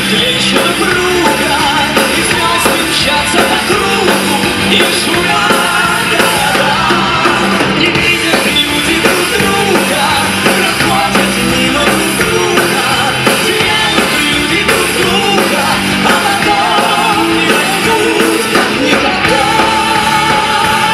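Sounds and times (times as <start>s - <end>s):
live rock band music: 0.0s - 20.9s
man singing: 0.0s - 20.9s.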